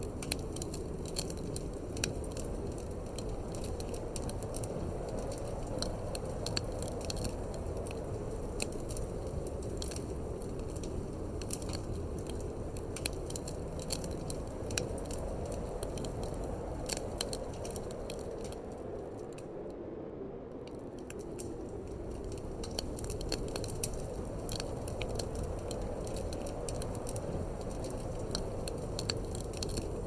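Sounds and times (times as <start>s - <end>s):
wood fire crackling and popping: 0.0s - 19.6s, 20.6s - 30.0s
low rushing wind: 0.0s - 30.0s.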